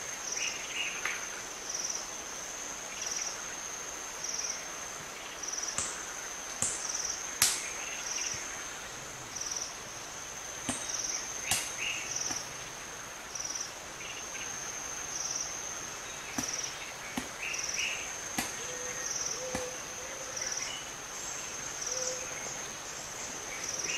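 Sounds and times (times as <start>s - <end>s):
insects chirring: 0.0s - 23.9s.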